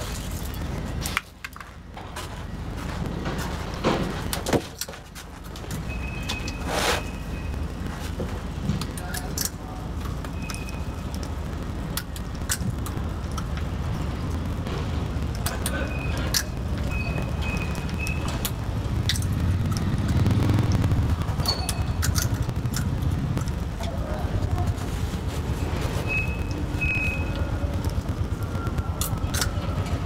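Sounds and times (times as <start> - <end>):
low traffic rumble: 0.0 - 30.0.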